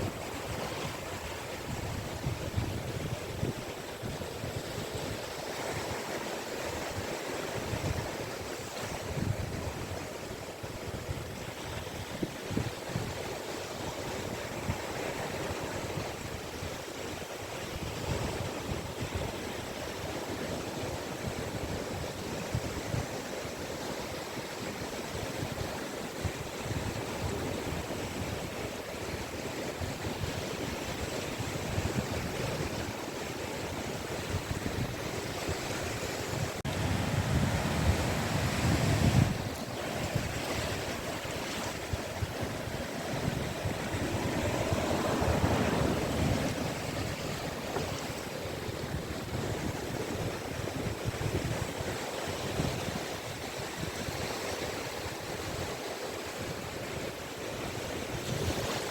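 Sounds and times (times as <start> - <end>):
sea waves breaking on beach: 0.0 - 58.9.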